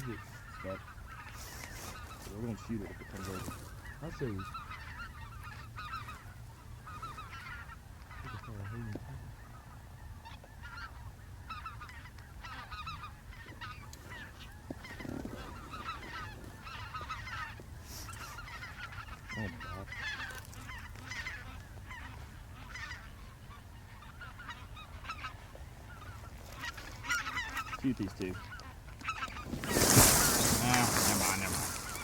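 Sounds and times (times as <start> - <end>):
snow geese honking: 0.0 - 32.0.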